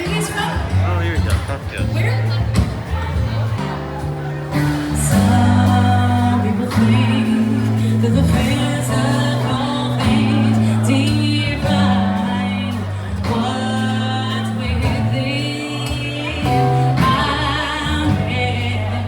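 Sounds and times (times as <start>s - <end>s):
song with singing over a beat: 0.0s - 19.0s.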